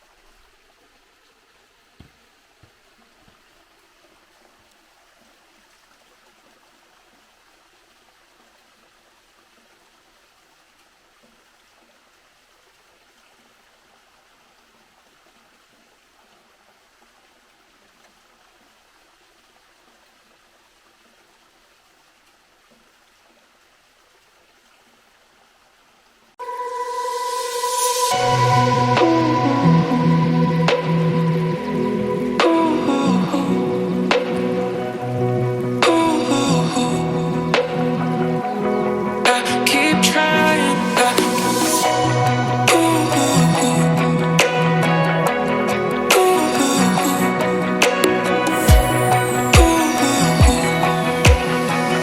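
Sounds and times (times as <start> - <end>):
stream water flowing: 0.0 - 52.0.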